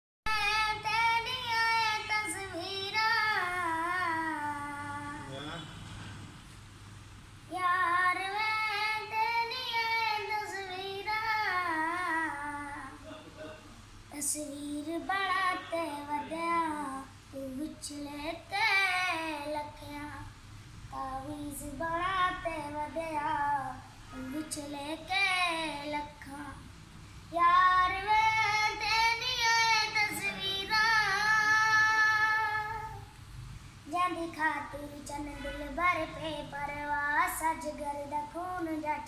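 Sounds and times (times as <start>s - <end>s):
boy singing unaccompanied: 0.3s - 5.3s, 7.5s - 13.0s, 14.1s - 20.3s, 20.9s - 26.7s, 27.3s - 33.1s, 33.8s - 39.0s.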